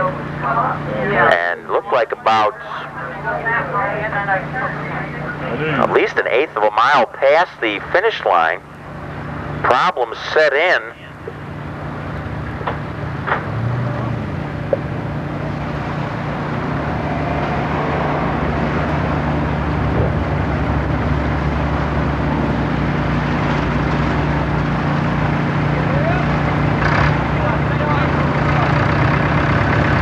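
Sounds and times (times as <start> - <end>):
rushing noise: 0.0 - 26.5
engine running steadily: 0.0 - 30.0.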